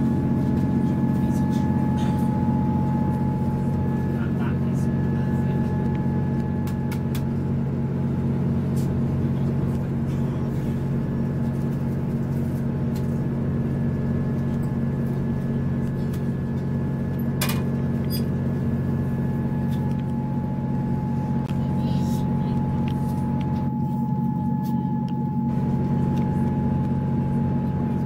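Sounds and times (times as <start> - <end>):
train running drone: 0.0 - 28.0.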